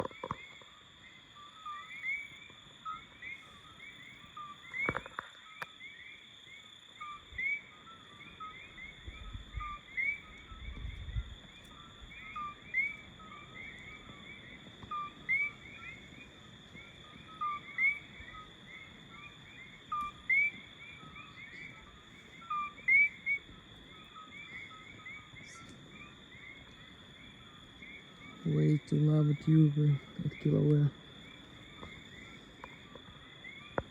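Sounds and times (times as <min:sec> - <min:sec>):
frogs calling in chorus: 0:00.0 - 0:33.9.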